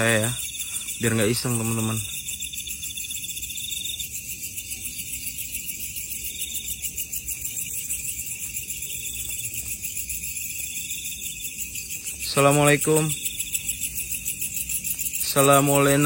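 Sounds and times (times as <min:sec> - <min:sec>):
high insect trill: 0:00.0 - 0:16.0
lower insect trill bursts: 0:00.0 - 0:16.0.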